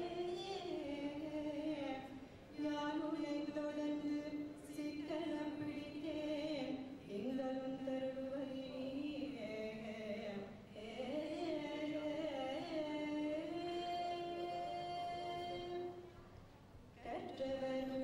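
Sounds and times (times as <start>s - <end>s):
woman singing: 0.0s - 16.0s, 17.0s - 18.0s.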